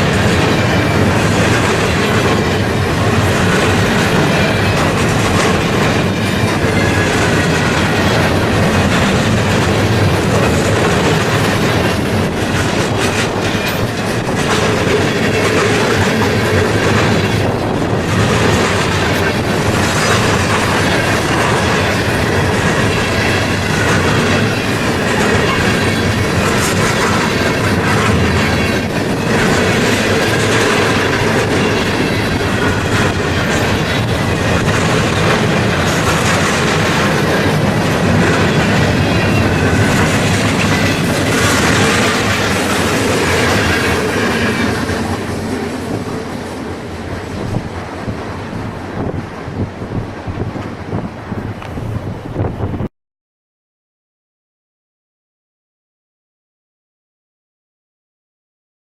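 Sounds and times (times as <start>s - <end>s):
wheels clicking over rail joints: 0.0s - 51.9s
freight train rolling past: 0.0s - 52.9s.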